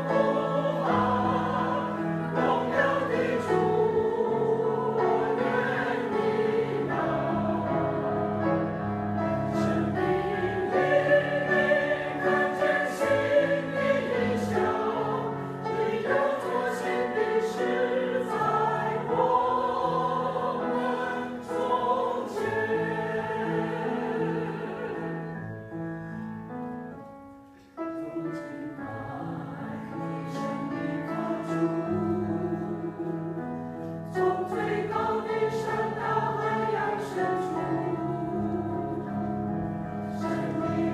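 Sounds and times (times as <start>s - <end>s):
choir singing: 0.0s - 25.6s, 28.2s - 40.9s
musical accompaniment: 0.0s - 40.9s.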